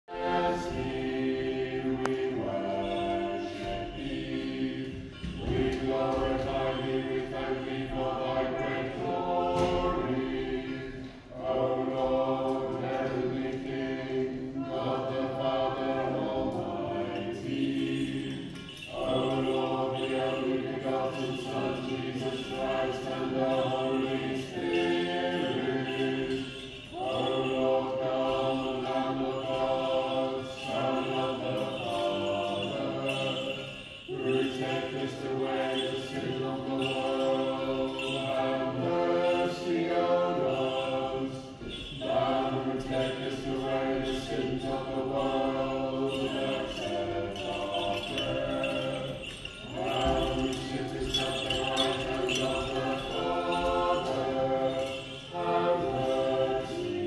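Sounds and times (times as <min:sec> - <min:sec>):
unaccompanied liturgical chant: 0:00.0 - 0:57.0.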